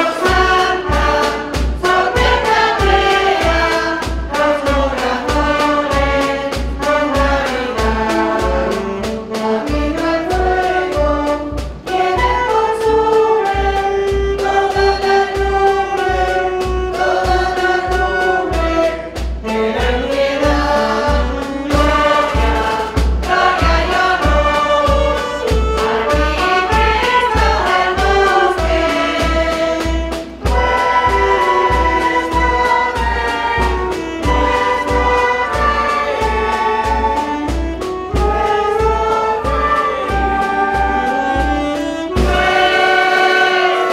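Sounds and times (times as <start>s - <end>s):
women's choir singing a hymn: 0.0s - 37.5s, 38.1s - 41.2s, 42.1s - 43.9s
clarinet: 0.0s - 43.9s
steady low beat: 0.0s - 43.9s.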